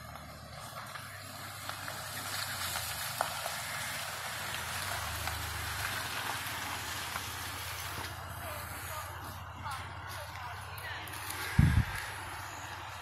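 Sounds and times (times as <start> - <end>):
low engine rumble: 0.0 - 13.0
tyres hissing on gravel: 0.0 - 13.0.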